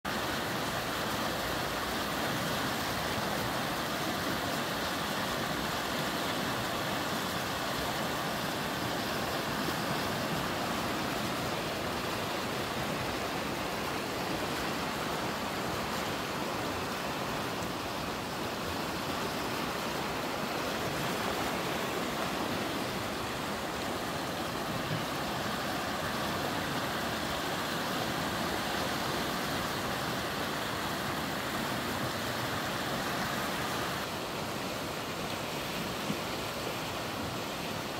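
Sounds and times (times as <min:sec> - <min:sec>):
river rushing over rapids: 0:00.0 - 0:37.9.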